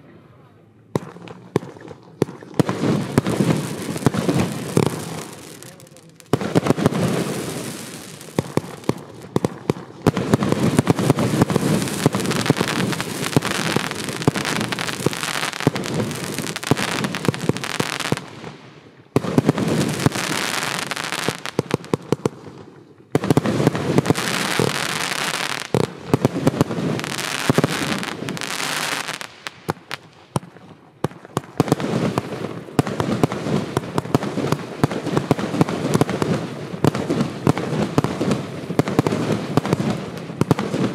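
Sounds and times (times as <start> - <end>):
fireworks crackling and popping: 1.0 - 40.9.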